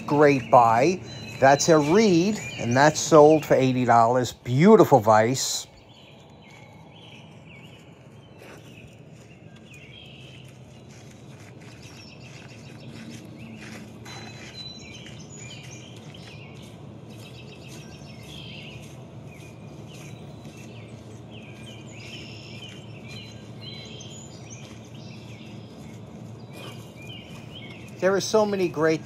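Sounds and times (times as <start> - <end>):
birds chirping: 0.0 - 29.0
low background noise: 0.0 - 29.0.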